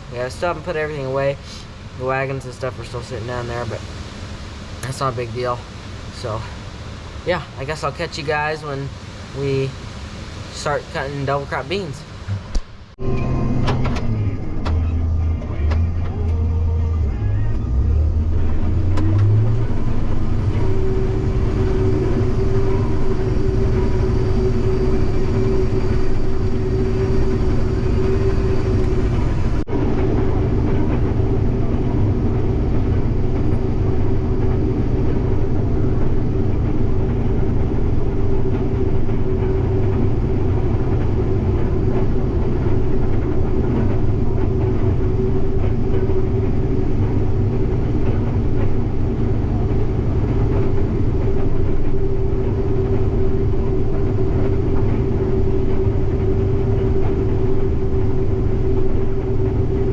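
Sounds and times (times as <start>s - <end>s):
heavy vehicle engine rumbling: 0.0s - 59.9s.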